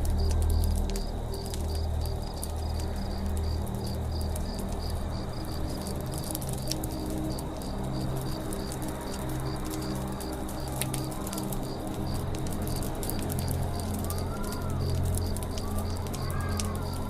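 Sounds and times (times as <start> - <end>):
campfire crackling and popping: 0.0 - 17.0
insects chirping: 0.0 - 17.0.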